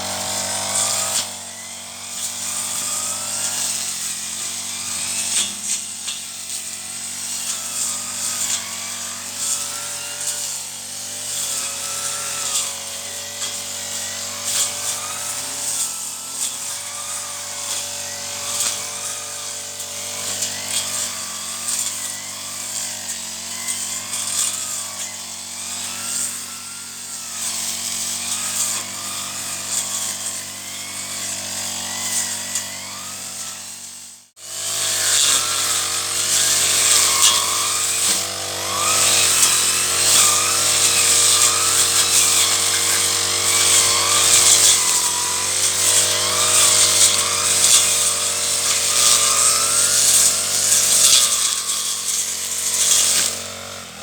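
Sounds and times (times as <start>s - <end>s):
brush cutter cutting weeds: 0.0s - 54.0s.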